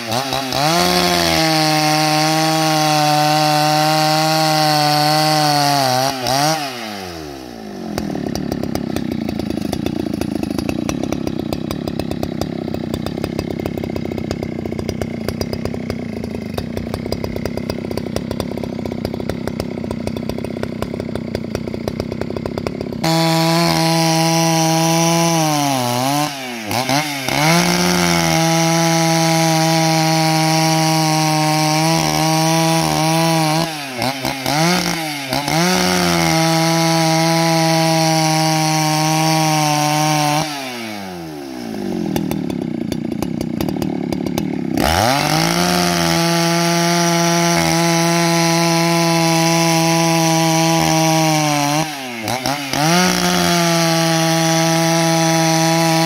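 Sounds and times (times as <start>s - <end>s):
chainsaw cutting through log: 0.0s - 56.0s.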